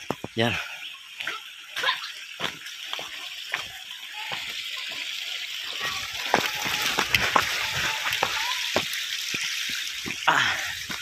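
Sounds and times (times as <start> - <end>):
footsteps on rocks and gravel: 0.0 - 5.1, 5.7 - 11.0
flowing water rushing: 0.0 - 11.0.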